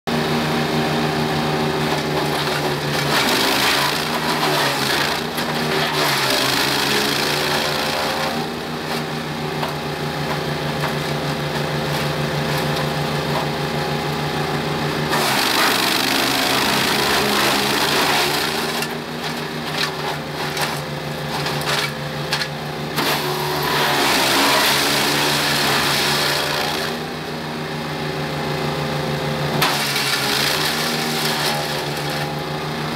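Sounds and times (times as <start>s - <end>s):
wood chipper engine running: 0.1s - 32.9s
branches shredding: 1.8s - 13.6s, 15.1s - 27.0s, 29.6s - 32.5s.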